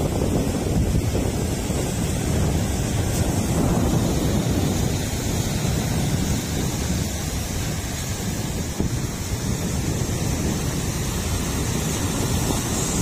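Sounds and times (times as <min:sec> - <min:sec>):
waves breaking on sandy beach: 0:00.0 - 0:13.0
wind buffeting microphone: 0:00.0 - 0:13.0.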